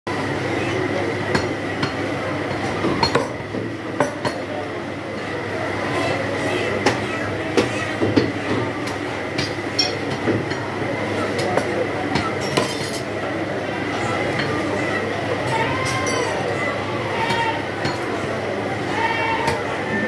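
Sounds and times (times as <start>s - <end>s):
busy market background noise: 0.1s - 20.0s.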